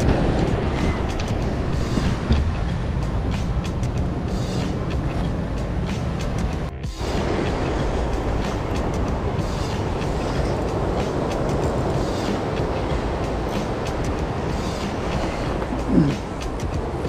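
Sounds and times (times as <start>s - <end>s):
surf breaking against rocks: 0.0s - 5.1s, 6.0s - 17.0s.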